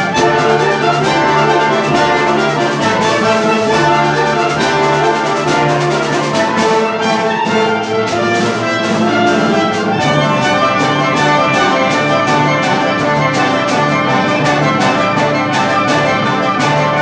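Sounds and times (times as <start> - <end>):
orchestra with prominent brass: 0.0 - 17.0.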